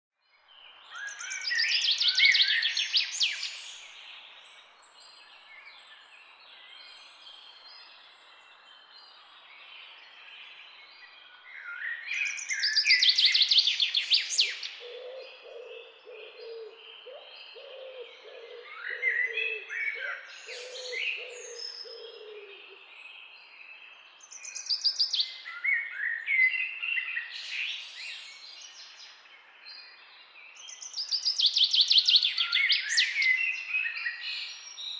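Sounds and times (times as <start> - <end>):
songbird trilling song: 0.2 - 34.9
soft bird chirps: 0.3 - 34.9.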